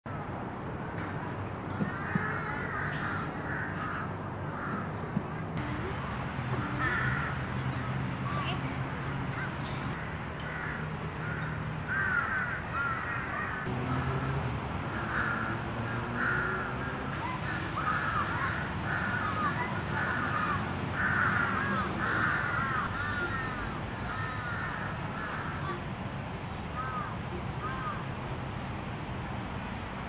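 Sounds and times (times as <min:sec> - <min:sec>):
birds calling: 0:00.9 - 0:05.6, 0:06.4 - 0:28.4.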